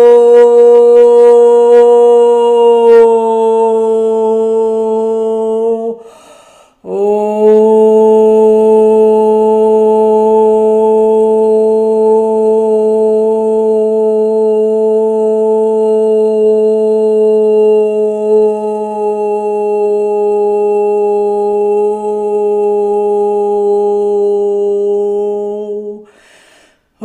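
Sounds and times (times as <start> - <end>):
woman singing a long note: 0.0 - 6.2, 6.8 - 26.1.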